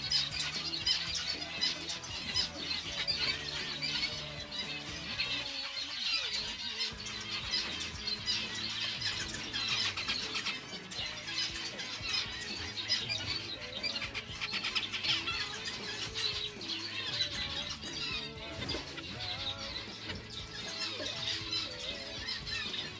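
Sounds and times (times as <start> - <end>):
background music: 0.0 - 22.9
small birds chirping: 0.0 - 22.9.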